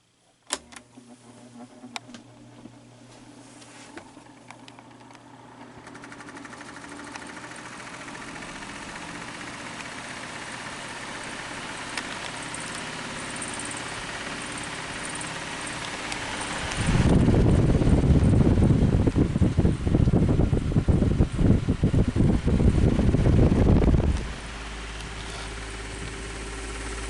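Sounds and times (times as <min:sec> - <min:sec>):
fan whirring: 0:00.0 - 0:27.0.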